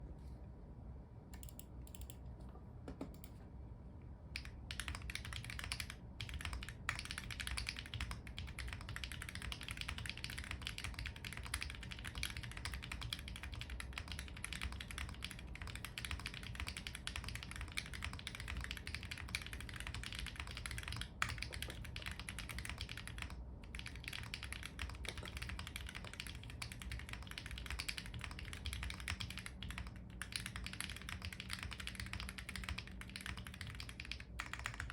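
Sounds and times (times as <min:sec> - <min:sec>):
mechanical keyboard typing: 0:01.3 - 0:02.2, 0:04.3 - 0:34.9.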